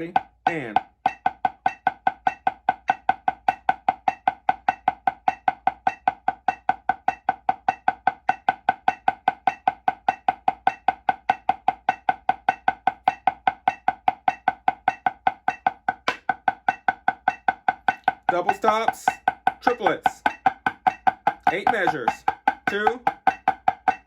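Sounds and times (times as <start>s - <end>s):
drumstick ticks: 0.0s - 24.0s.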